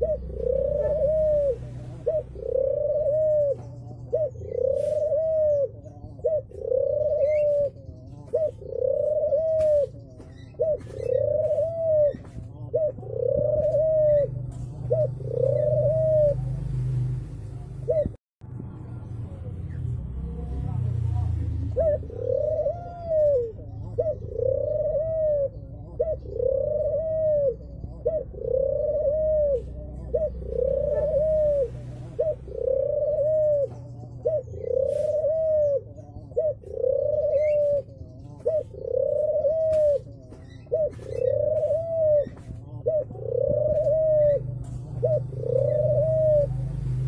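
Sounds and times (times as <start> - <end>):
dove cooing: 0.0 - 18.2, 20.3 - 47.0.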